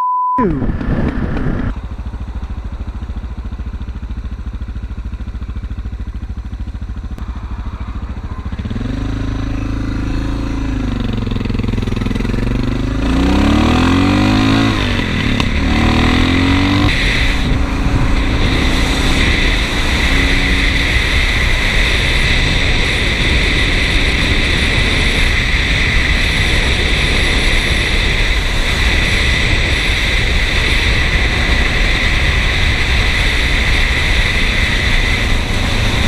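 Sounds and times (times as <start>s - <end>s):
wind rushing over microphone: 0.4s - 2.0s, 7.0s - 36.0s
motorcycle engine revving: 0.5s - 36.0s.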